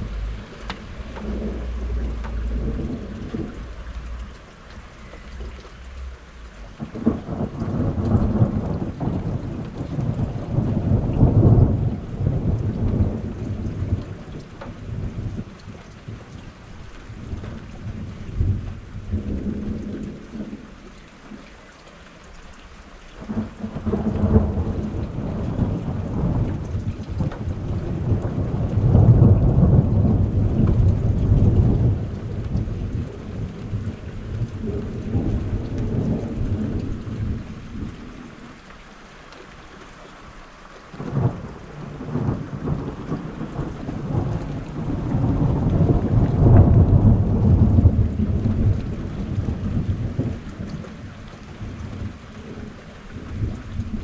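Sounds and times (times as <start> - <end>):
rolling thunder: 0.0 - 5.6, 6.6 - 16.3, 17.1 - 20.8, 23.2 - 38.4, 41.0 - 54.0
steady rain: 0.0 - 54.0.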